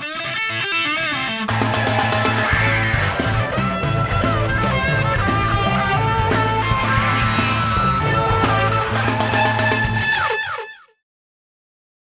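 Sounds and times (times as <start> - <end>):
guitar background music: 0.0 - 10.8.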